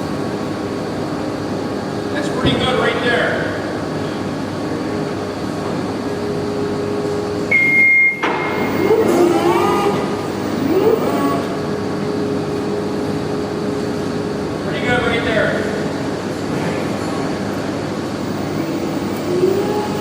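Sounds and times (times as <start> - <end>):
shop machinery hum: 0.0 - 20.0.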